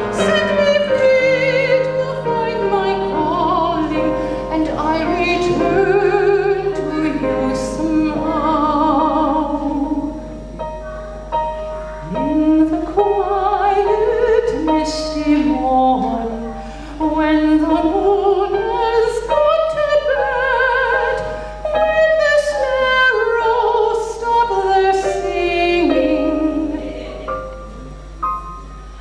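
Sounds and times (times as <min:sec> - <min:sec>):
woman singing with vibrato: 0:00.0 - 0:10.6, 0:12.0 - 0:28.6
digital piano: 0:00.0 - 0:29.0.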